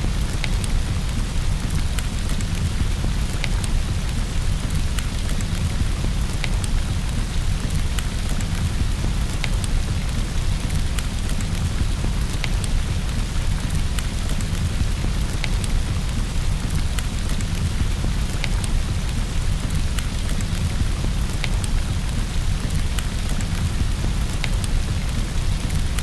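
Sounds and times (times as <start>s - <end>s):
steady rain: 0.0s - 26.0s
wood fire crackling: 0.0s - 26.0s.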